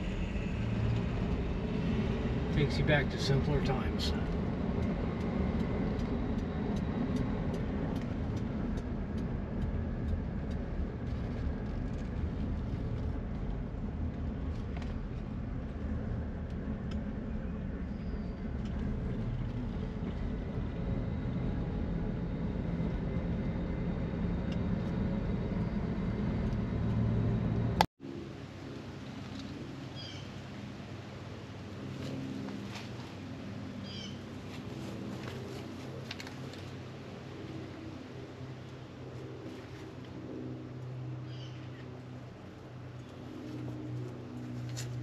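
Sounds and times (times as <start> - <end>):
engine and road noise rumble: 0.0 - 45.0.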